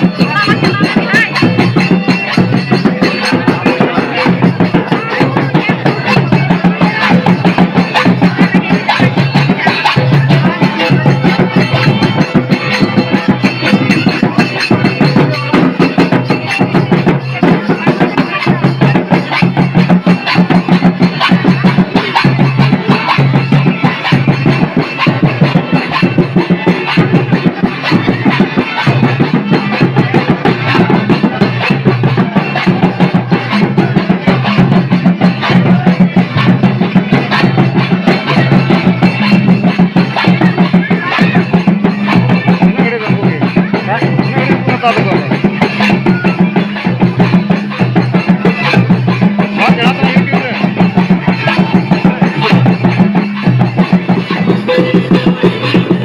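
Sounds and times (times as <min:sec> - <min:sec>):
folk dance music: 0:00.0 - 0:44.0, 0:47.9 - 0:56.0
quick steady drum beats: 0:00.0 - 0:56.0.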